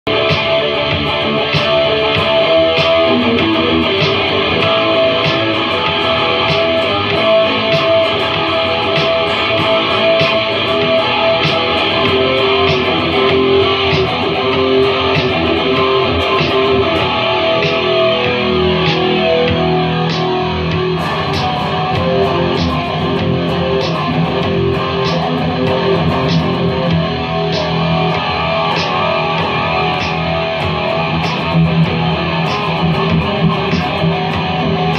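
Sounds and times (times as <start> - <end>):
electric guitar sustained notes: 0.1 - 34.9
steady tick-like beat: 0.1 - 34.9.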